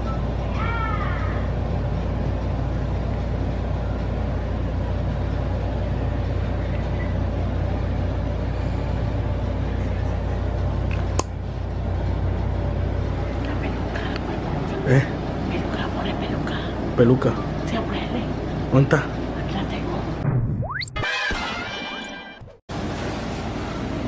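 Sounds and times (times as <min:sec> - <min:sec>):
low hum with hiss: 0:00.0 - 0:20.2.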